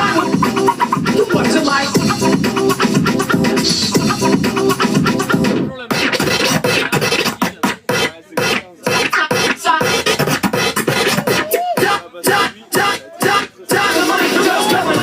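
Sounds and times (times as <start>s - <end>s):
hip-hop beat: 0.0s - 15.0s
turntable scratching samples: 0.0s - 15.0s.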